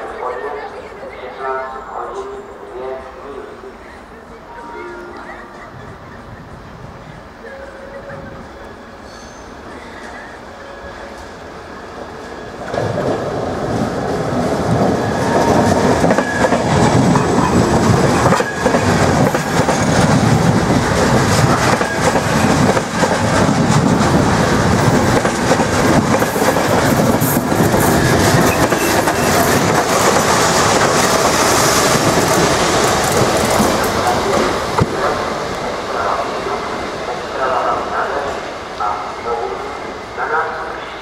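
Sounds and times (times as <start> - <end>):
passenger train passing: 0.0 - 41.0.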